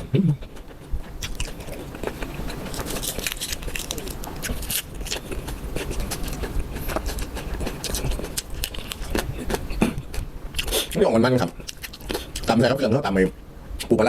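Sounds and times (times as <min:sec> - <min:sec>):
person chewing crunchy food: 0:00.0 - 0:12.6.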